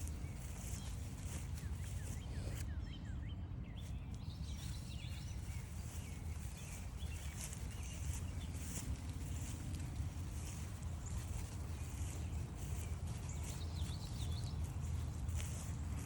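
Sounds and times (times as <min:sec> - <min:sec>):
footsteps crunching on a trail: 0:00.0 - 0:02.8, 0:03.8 - 0:16.0
songbirds chirping and singing: 0:00.0 - 0:16.0.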